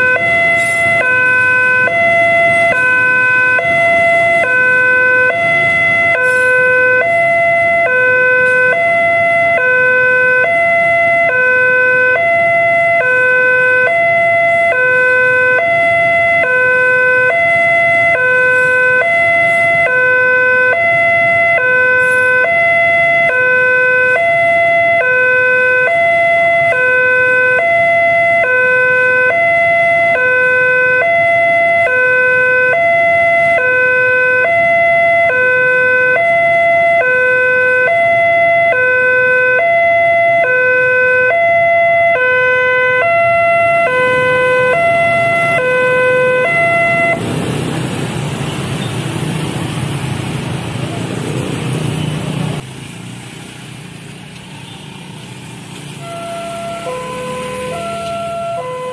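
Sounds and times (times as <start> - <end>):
two-tone crossing alarm: 0.0 - 47.4, 56.0 - 58.9.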